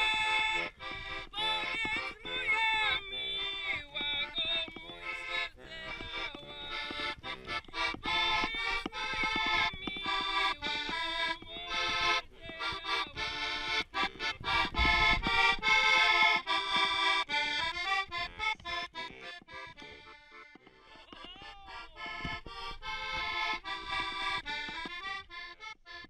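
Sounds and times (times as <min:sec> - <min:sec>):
button accordion playing lively tune: 0:00.0 - 0:26.0.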